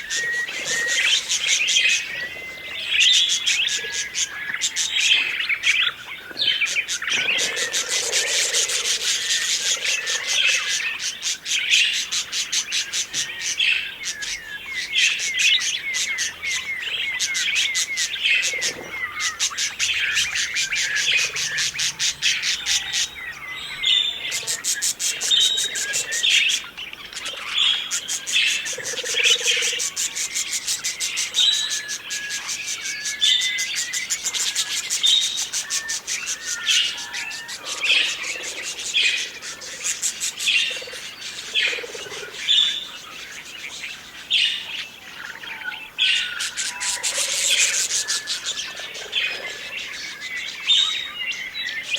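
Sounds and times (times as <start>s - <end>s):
budgerigars chattering and chirping: 0.0s - 51.9s.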